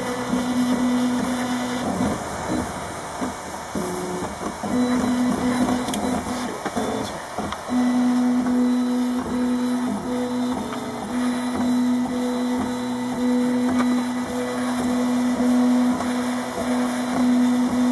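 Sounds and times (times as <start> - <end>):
printer stepper motors humming: 0.0 - 17.9.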